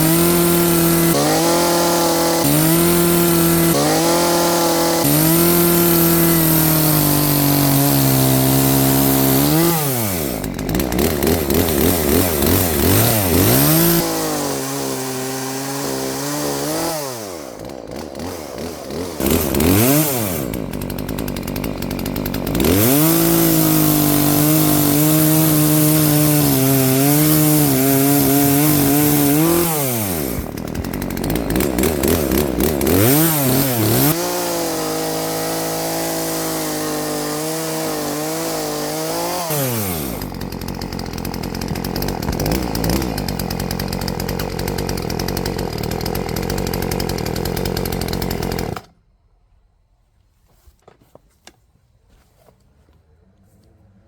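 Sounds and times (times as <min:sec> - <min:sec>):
chainsaw cutting wood: 0:00.0 - 0:49.0
chainsaw idling: 0:00.0 - 0:49.0.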